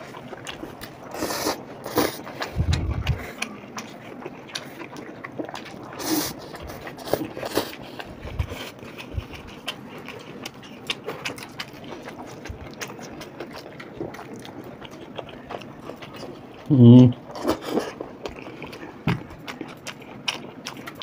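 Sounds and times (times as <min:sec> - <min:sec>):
noodles slurped and chewed: 0:00.0 - 0:21.0.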